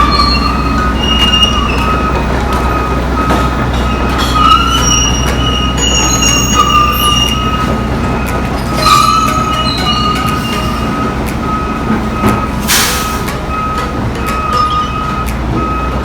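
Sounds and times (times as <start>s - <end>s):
crawler tracks squealing and clanking: 0.0s - 16.0s
diesel engine rumble: 0.0s - 16.0s.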